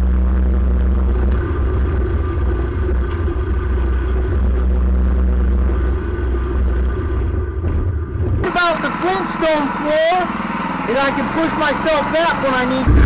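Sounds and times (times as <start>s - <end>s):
small engine running under load: 0.0s - 13.0s.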